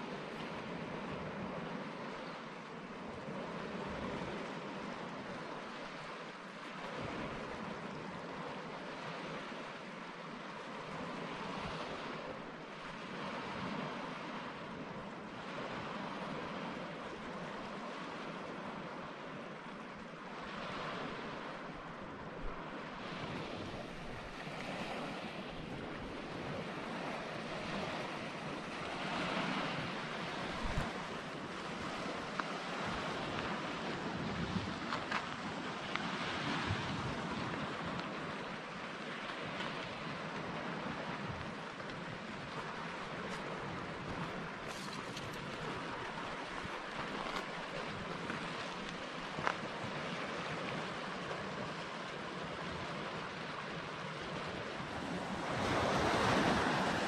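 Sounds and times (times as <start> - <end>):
waves washing onto shore: 0.0 - 57.0
wind: 0.0 - 57.0.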